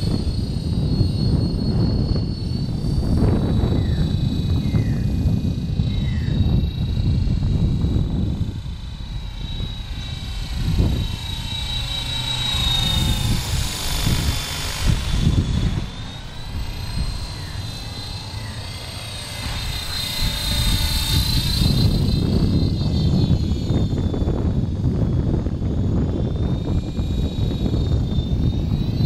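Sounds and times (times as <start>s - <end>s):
rc helicopter whine: 0.0s - 29.0s.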